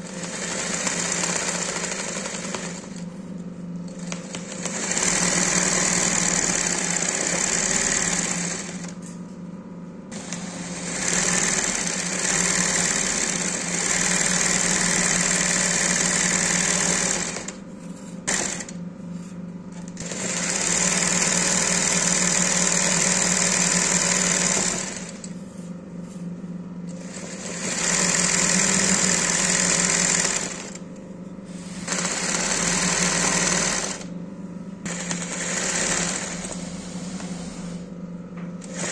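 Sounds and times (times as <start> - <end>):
embroidery machine stitching: 0.0 - 3.1, 3.9 - 9.0, 10.1 - 17.6, 18.3 - 18.8, 19.8 - 25.3, 26.9 - 30.8, 31.6 - 34.1, 34.8 - 37.8, 38.6 - 38.9
steady motor hum: 0.0 - 38.9.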